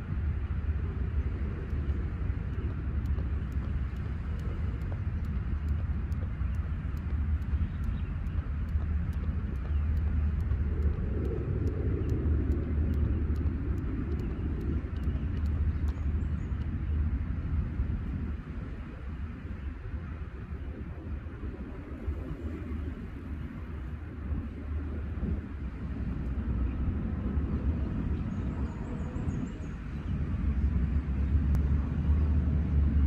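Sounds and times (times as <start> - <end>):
low drone: 0.0 - 33.0
wind rumble on microphone: 0.0 - 33.0.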